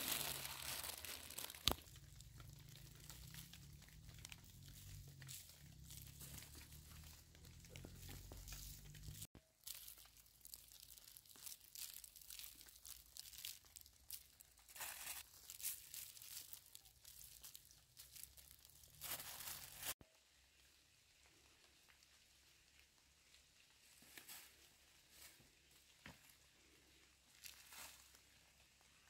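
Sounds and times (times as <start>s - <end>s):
faint rustling and crackling: 0.0s - 29.0s.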